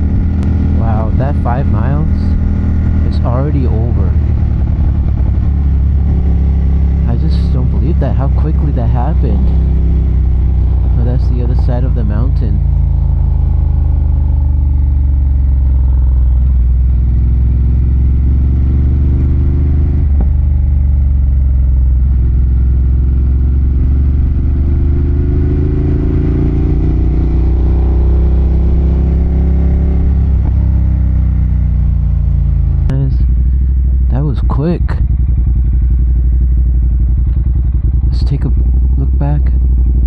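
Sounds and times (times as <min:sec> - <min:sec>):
motorcycle engine under throttle: 0:00.0 - 0:40.0.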